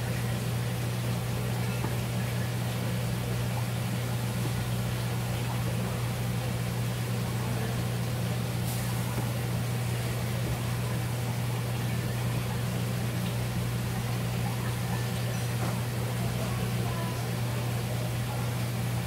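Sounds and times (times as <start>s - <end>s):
low machine hum with hiss: 0.0s - 19.0s.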